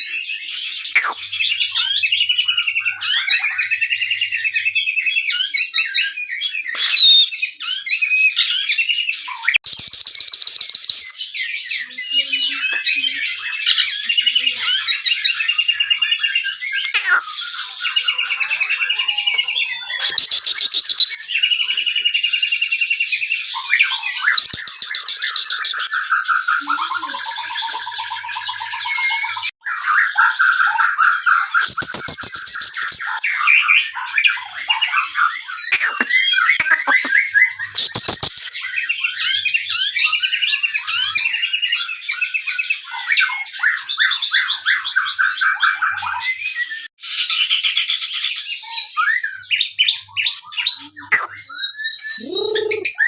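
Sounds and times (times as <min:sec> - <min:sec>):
songbird singing trills and whistles: 0:00.0 - 0:53.0.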